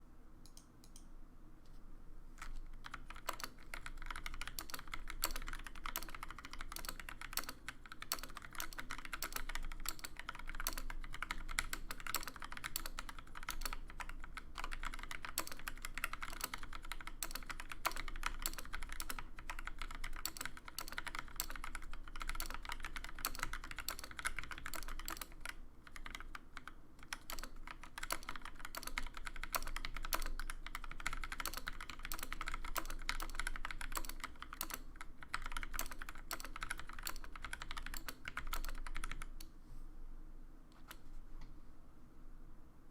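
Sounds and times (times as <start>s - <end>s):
mechanical keyboard typing: 2.4s - 39.5s.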